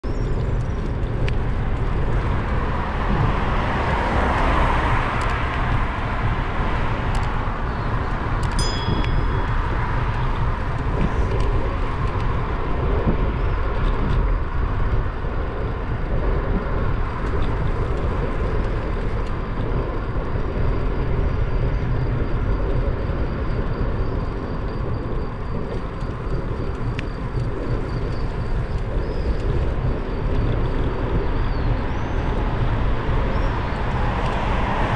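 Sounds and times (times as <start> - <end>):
vehicle road noise: 0.0 - 34.9
wind buffeting microphone: 0.0 - 34.9.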